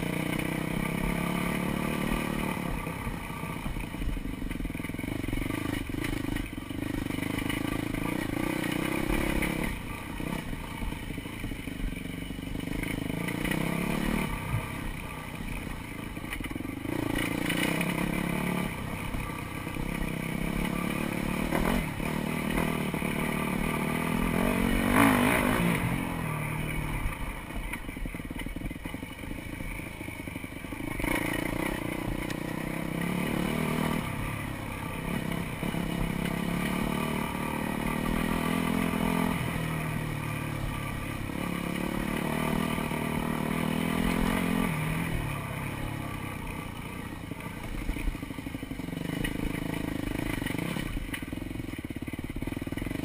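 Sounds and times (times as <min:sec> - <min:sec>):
dirt bike engine revving: 0:00.0 - 0:29.0, 0:30.6 - 0:51.4.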